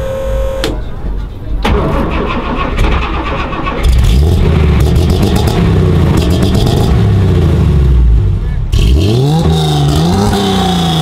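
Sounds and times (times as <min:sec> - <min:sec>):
car engine starting and running: 0:00.0 - 0:11.0.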